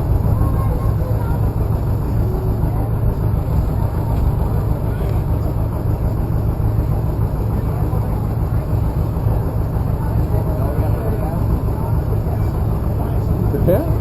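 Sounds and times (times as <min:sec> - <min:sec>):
engine running: 0:00.0 - 0:14.0
faint voices: 0:00.0 - 0:14.0.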